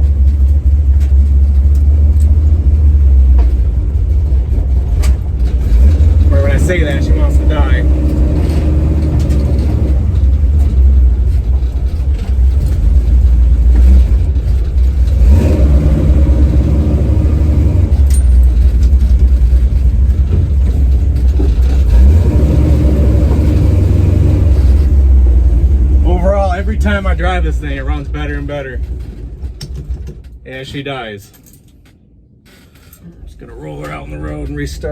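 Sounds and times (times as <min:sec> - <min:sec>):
car engine deep rumble: 0:00.0 - 0:31.1, 0:31.7 - 0:34.9.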